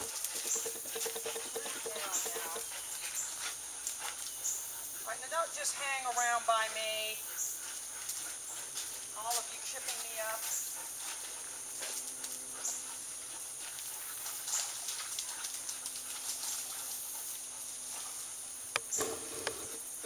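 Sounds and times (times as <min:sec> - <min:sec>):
dogs breathing and moving: 0:00.0 - 0:20.0.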